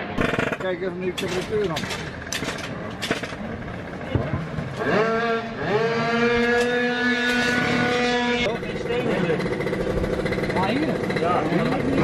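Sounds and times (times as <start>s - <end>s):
scooter engine revving: 0.0s - 1.1s, 2.0s - 12.0s.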